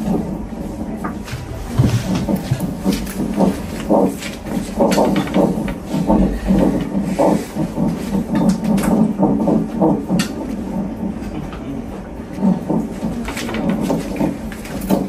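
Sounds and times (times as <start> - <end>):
doppler heartbeat whooshing: 0.0 - 15.0.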